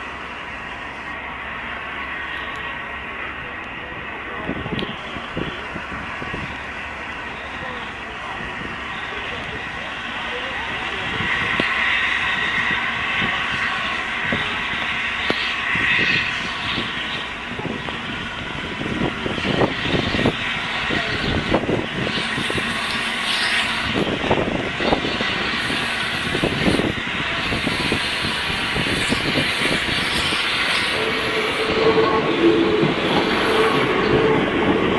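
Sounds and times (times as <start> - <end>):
steam locomotive exhaust beats: 0.0 - 34.9
steam hissing: 5.0 - 34.9.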